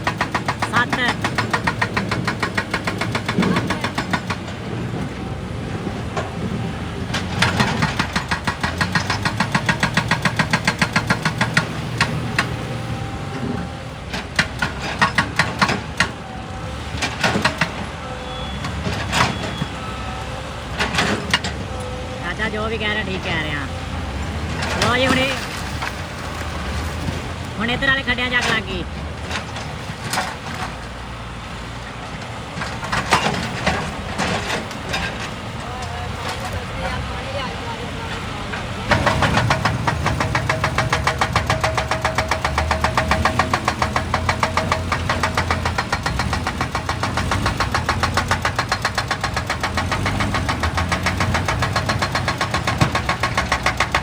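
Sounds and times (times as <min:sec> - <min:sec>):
engine running: 0:00.0 - 0:54.0
rapid engine knocking: 0:00.0 - 0:54.0.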